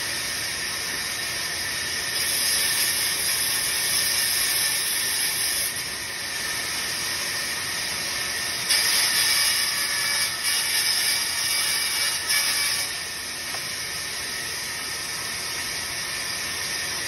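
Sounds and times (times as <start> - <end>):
band saw cutting wood: 0.0 - 15.3.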